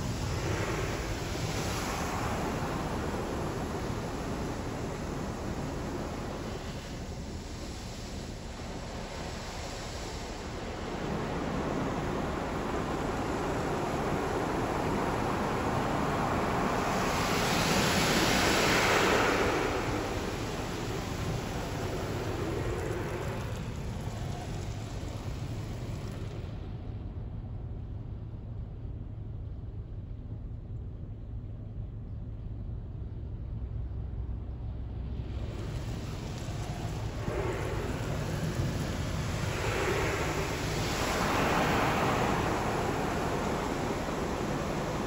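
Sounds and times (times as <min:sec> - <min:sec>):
car wash water jets spraying: 0:00.0 - 0:26.7, 0:35.1 - 0:45.0
steady low hum: 0:00.0 - 0:45.0.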